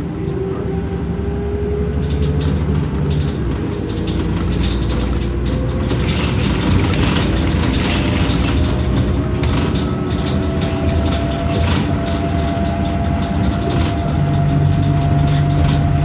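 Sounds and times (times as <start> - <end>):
bus engine drone: 0.0 - 16.0
road noise: 0.0 - 16.0
body panels rattling: 2.2 - 16.0.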